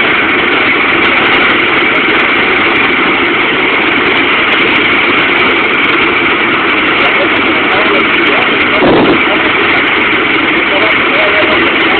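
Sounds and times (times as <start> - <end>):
helicopter engine and rotors: 0.0 - 11.9.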